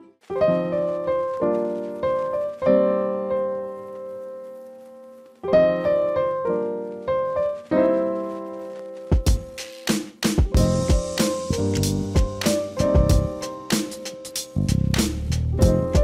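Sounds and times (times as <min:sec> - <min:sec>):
piano chords ringing: 0:00.0 - 0:14.7, 0:15.5 - 0:16.0.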